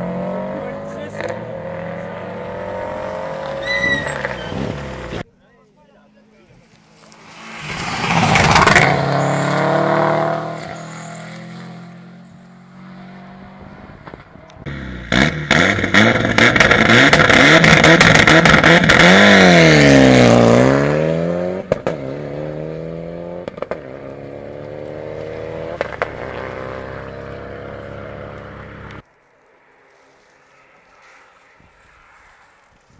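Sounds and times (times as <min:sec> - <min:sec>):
rally car passing at speed: 0:00.0 - 0:05.2, 0:06.7 - 0:29.0.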